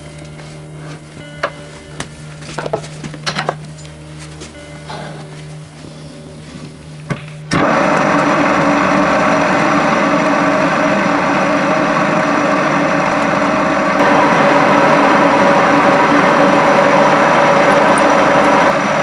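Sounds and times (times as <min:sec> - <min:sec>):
drill press motor hum and whine: 0:00.0 - 0:19.0.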